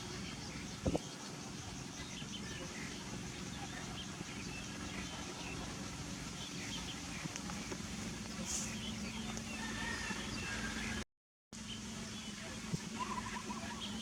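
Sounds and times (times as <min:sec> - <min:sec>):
steady low hum: 0:00.0 - 0:11.0, 0:11.6 - 0:14.0.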